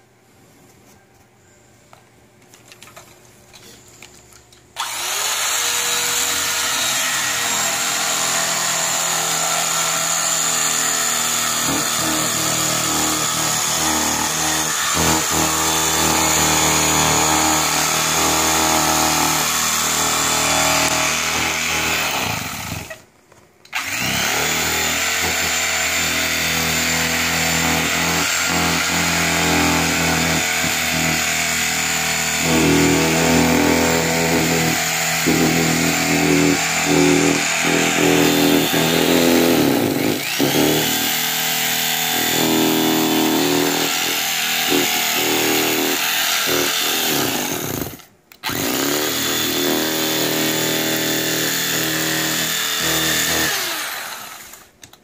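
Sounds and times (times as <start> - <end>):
electric power tool running: 4.8 - 23.0, 23.7 - 54.6.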